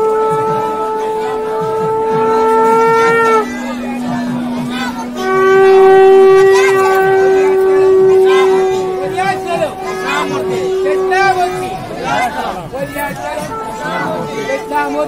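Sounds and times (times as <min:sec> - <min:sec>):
horns blowing long notes: 0:00.0 - 0:15.0.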